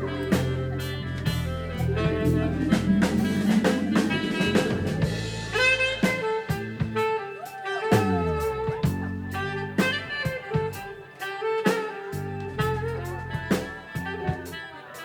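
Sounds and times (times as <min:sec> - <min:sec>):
drum kit beat: 0:00.0 - 0:15.0
jazz band playing: 0:00.0 - 0:15.0.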